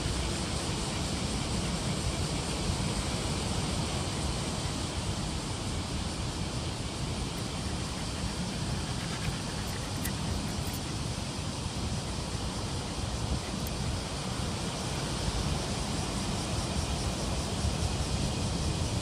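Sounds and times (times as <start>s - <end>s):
even hiss: 0.0s - 19.0s.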